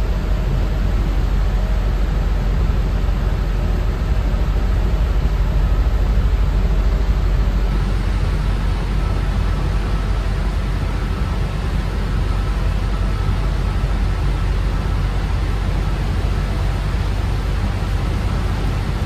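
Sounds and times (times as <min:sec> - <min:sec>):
bus rumble on wet road: 0:00.0 - 0:19.0
faint steady whine: 0:00.0 - 0:19.0.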